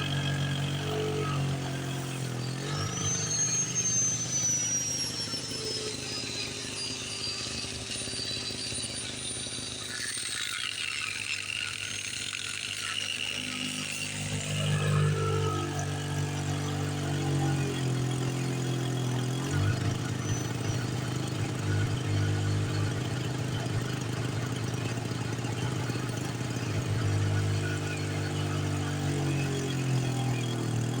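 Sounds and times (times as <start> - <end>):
generator engine running: 0.0 - 31.0.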